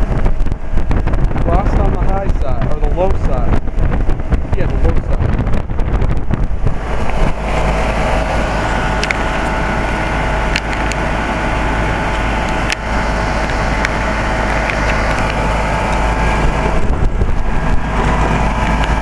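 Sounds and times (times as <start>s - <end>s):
heat pump humming: 0.0s - 19.0s.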